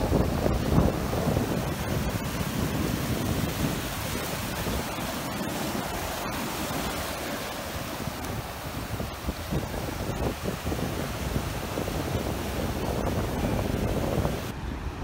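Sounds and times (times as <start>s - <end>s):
ocean waves breaking on sand: 0.0s - 15.0s.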